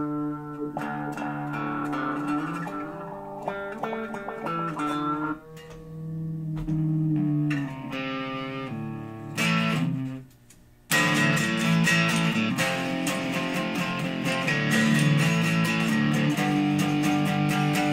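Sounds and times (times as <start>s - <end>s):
electric guitar chord: 0.0s - 10.3s, 10.9s - 17.9s
electric guitar notes: 0.0s - 17.9s.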